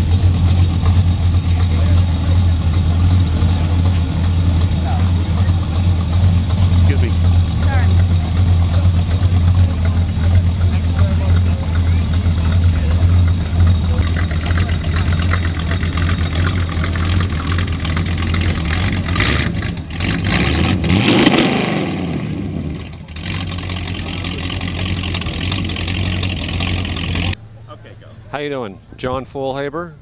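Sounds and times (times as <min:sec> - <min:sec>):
truck engine rumbling and revving: 0:00.0 - 0:30.0.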